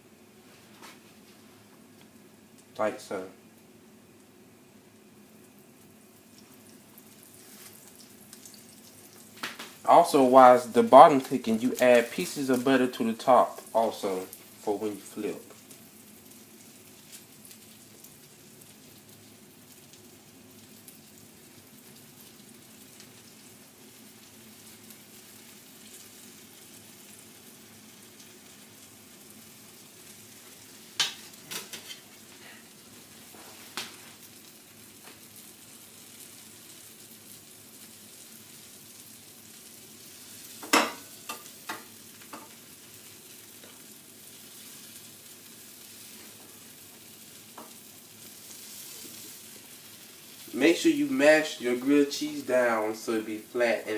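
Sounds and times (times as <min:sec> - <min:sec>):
sandwich sizzling in a pan: 0:00.3 - 0:53.9.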